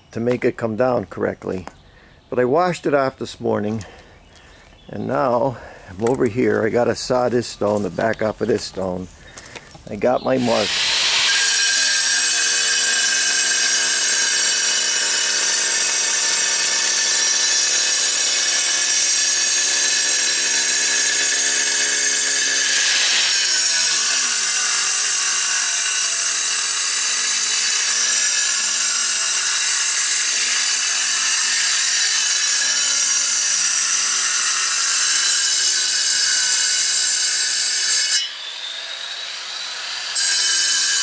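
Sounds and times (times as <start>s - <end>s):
angle grinder cutting stone: 5.0s - 41.0s.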